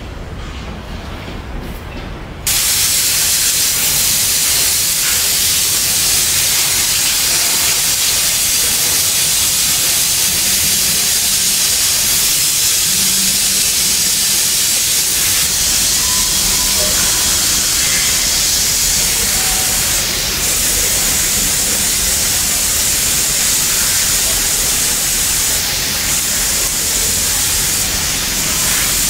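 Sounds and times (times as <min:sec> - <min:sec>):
water spraying hiss: 0:02.5 - 0:29.0.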